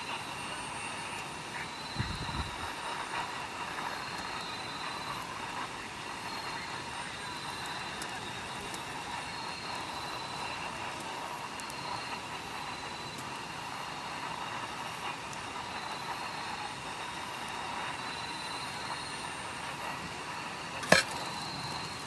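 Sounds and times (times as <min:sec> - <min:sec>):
campfire rushing: 0:00.1 - 0:22.0
fire crackles and pops: 0:02.7 - 0:22.0.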